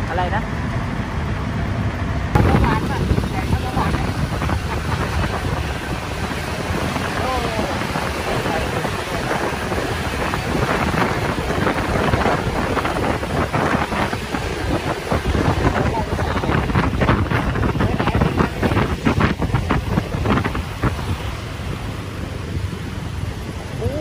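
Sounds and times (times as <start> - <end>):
engine rumble: 0.0 - 24.0
traffic noise: 0.0 - 24.0
wind buffeting microphone: 0.9 - 24.0.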